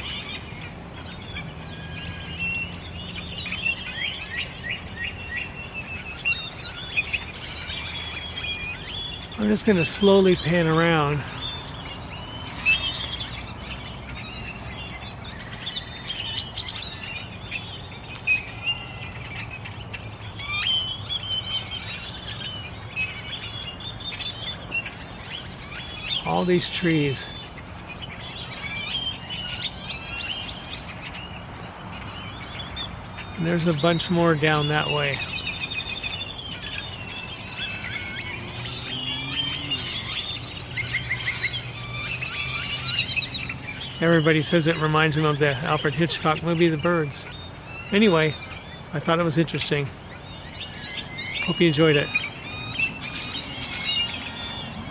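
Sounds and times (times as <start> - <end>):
flock of starlings calling: 0.0 - 54.9.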